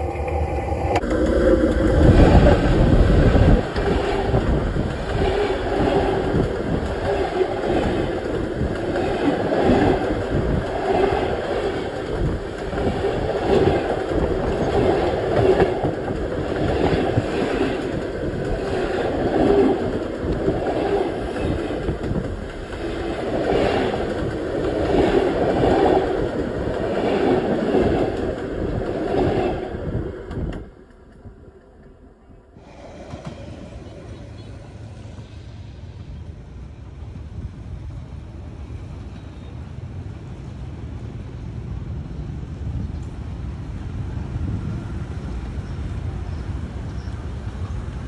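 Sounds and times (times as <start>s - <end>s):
train wheels rumbling overhead: 0.0s - 48.0s.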